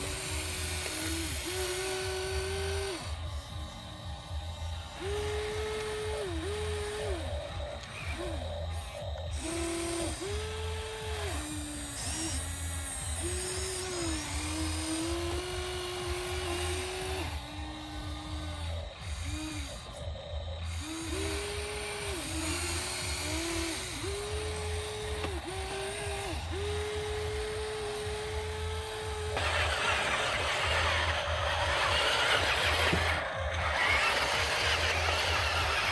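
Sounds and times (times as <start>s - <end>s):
toy electric motors whining: 0.0s - 35.9s.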